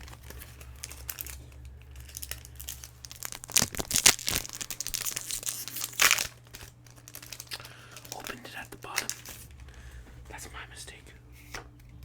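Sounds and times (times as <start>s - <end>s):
foil wrapper ripping: 0.0s - 10.0s
foil wrapper crinkling: 0.0s - 11.6s.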